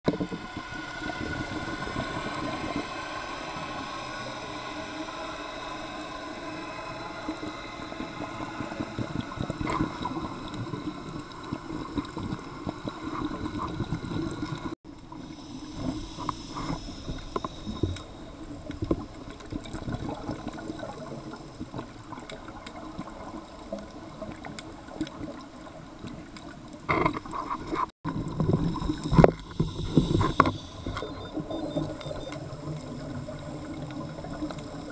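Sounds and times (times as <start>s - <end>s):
underwater watery rush: 0.1s - 34.9s.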